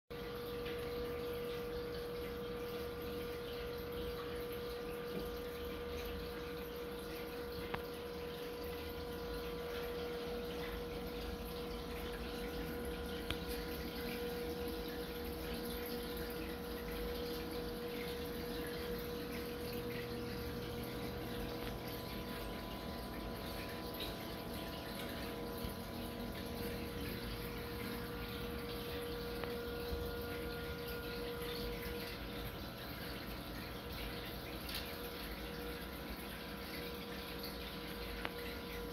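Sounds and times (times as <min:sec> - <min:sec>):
aquarium water pumps humming: 0:00.1 - 0:38.9.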